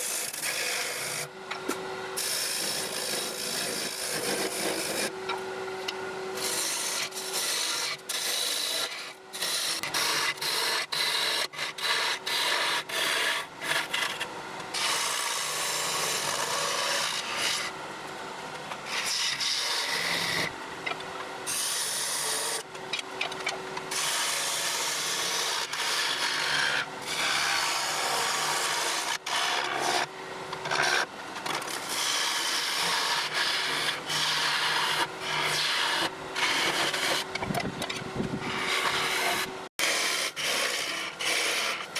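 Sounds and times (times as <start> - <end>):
lathe tool scraping wood: 0.0 - 17.8, 18.5 - 41.9.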